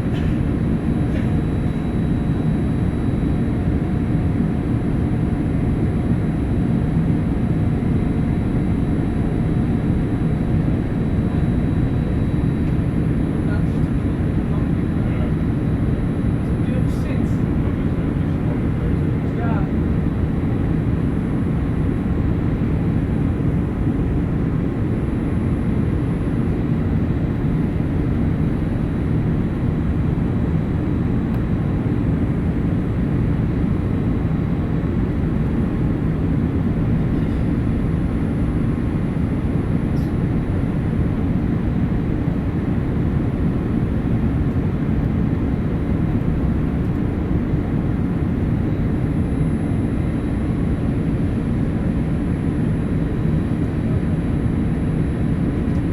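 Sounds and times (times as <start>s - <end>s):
aircraft cabin engine drone: 0.0s - 55.9s
faint steady whines: 0.0s - 55.9s.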